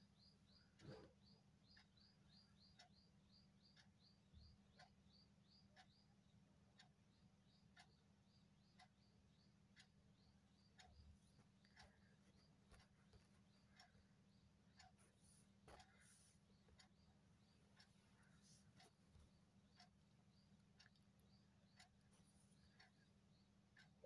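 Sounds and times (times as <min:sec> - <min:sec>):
faint high chirps: 0:00.0 - 0:24.0
faint regular ticking: 0:00.0 - 0:24.0.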